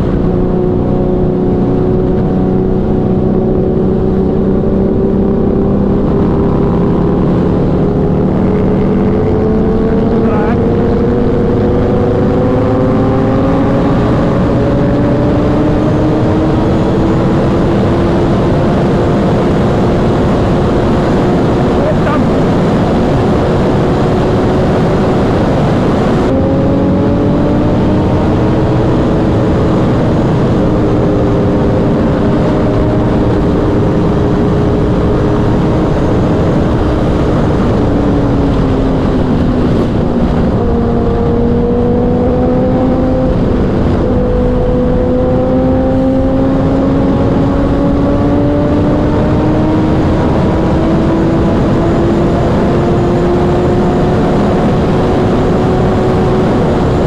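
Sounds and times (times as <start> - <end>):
motorcycle engine at speed: 0.0 - 57.0
wind rush: 0.0 - 57.0.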